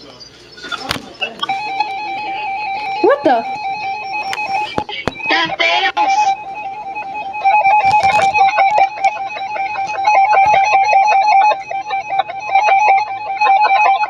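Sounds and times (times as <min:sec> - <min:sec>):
rapid electronic alert beeps: 0:00.0 - 0:14.0.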